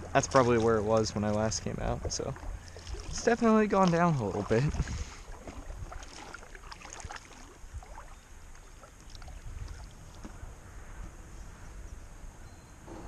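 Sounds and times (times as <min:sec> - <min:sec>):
river water: 0:00.0 - 0:11.2
light wind: 0:00.0 - 0:13.0.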